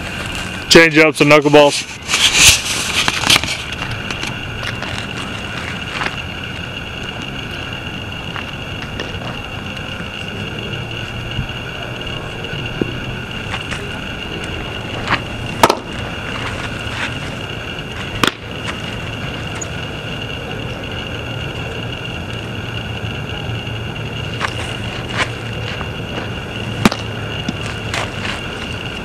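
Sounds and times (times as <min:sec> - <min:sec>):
background hum: 0:00.0 - 0:29.0
faint high whine: 0:00.0 - 0:29.0.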